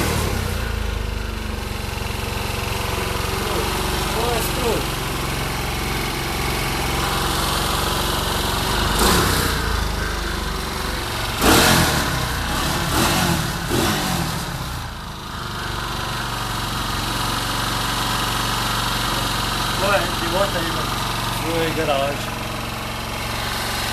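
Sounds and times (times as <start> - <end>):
quad bike engine revving: 0.0 - 23.9.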